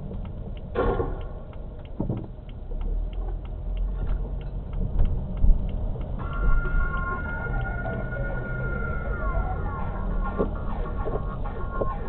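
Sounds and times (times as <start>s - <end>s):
engine and road rumble: 0.0s - 12.0s
turn signal ticking: 0.0s - 12.0s.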